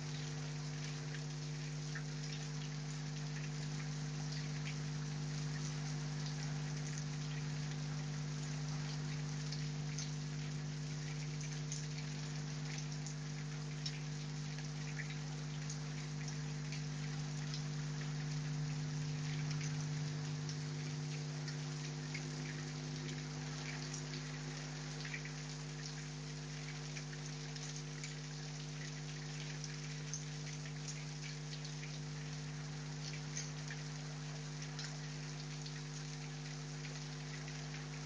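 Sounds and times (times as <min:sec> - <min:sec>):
raindrops ticking on surfaces: 0:00.0 - 0:38.0.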